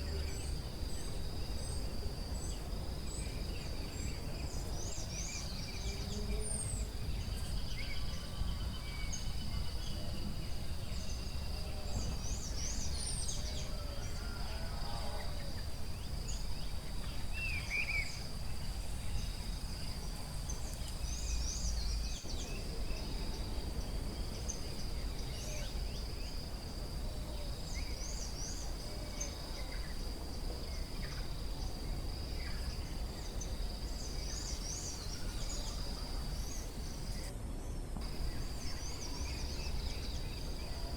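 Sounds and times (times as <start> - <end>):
high insect drone: 0.0 - 37.3, 38.0 - 40.9.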